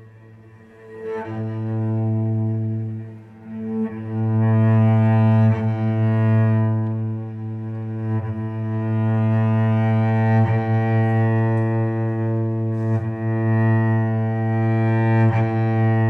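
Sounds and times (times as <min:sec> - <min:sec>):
cello bowed low note: 0:00.0 - 0:16.0.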